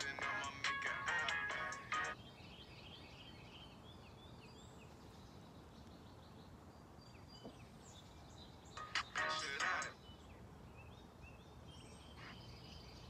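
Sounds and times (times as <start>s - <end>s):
quiet outdoor background noise: 0.0s - 13.0s
songbird chirping: 0.0s - 13.0s.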